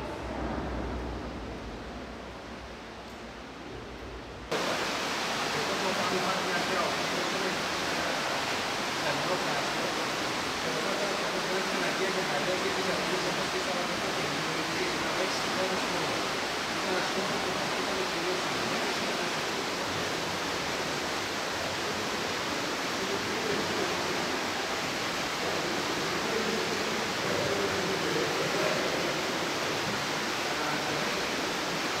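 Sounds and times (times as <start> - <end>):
rushing underground river: 0.0 - 32.0.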